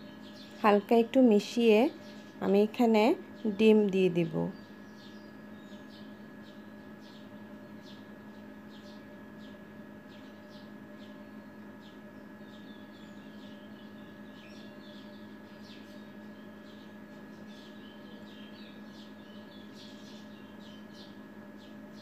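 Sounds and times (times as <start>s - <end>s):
small birds chirping: 0.0s - 22.0s
steady electrical hum: 0.0s - 22.0s.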